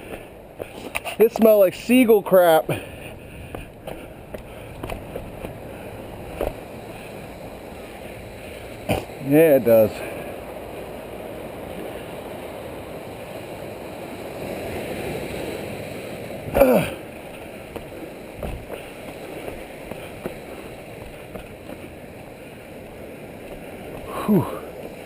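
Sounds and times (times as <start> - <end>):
surf on rocky shore: 0.0 - 25.0
wind: 0.0 - 25.0.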